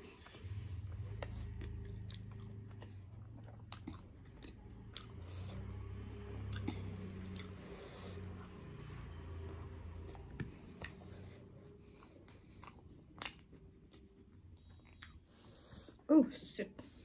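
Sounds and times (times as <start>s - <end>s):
person chewing: 0.0s - 8.8s, 10.0s - 16.0s
low steady hum: 0.0s - 17.0s.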